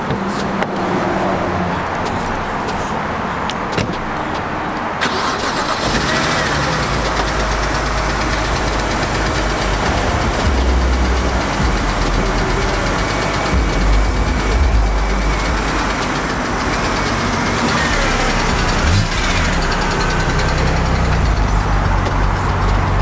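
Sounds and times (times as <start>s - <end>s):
car engine starting and idling: 0.0s - 23.0s.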